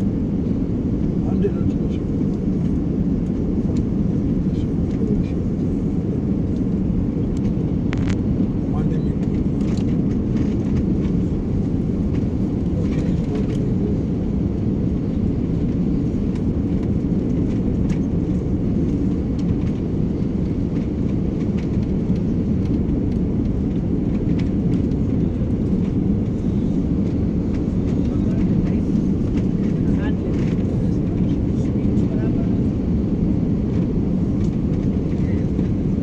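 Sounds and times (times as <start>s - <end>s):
airliner cabin drone: 0.0s - 36.0s.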